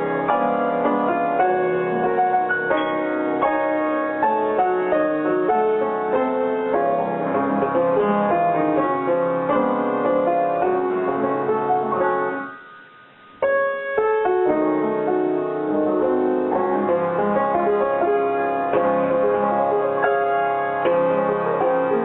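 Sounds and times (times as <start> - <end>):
piano music with quick notes: 0.0 - 22.0.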